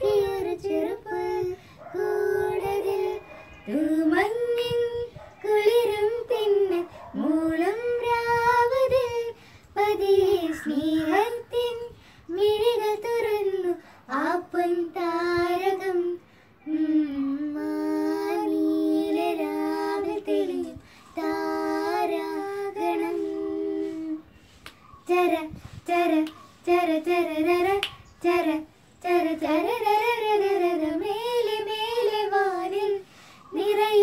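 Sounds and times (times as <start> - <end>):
child singing: 0.0 - 24.3, 25.0 - 34.0.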